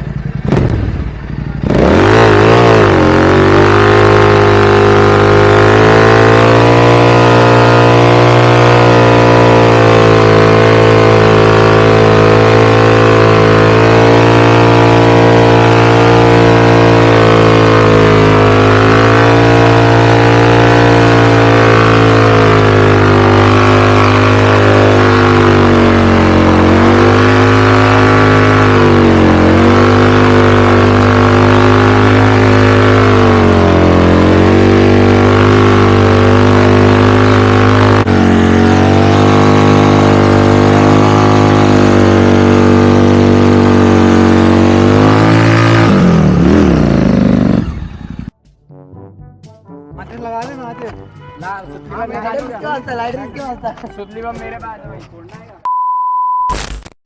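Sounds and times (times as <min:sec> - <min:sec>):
motorcycle engine revving: 0:00.0 - 0:48.4.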